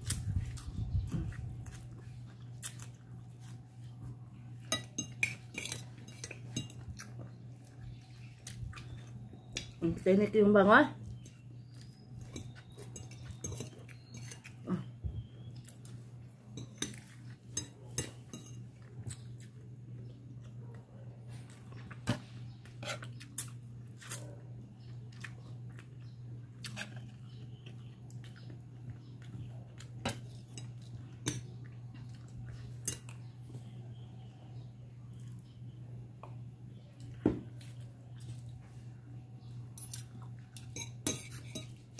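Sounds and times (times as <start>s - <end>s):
chewing: 0.0s - 9.8s, 11.0s - 34.0s, 39.8s - 41.9s
steady low hum: 0.0s - 41.9s.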